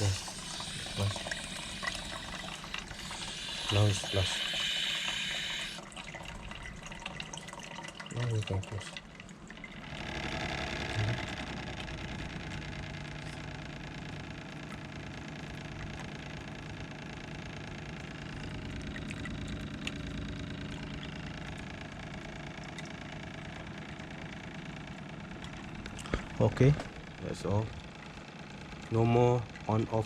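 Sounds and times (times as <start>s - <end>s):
pump humming: 0.0s - 30.0s.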